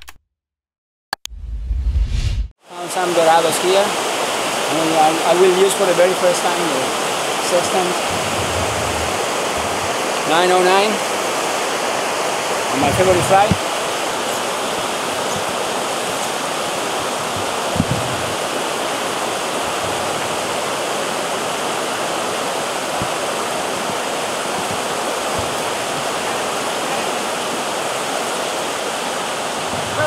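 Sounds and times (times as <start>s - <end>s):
river rushing over rocks: 2.7s - 30.0s.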